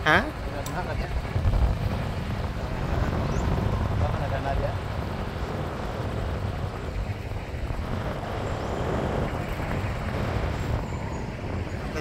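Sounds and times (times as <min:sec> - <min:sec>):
vehicle rumbling in motion: 0:00.0 - 0:12.0.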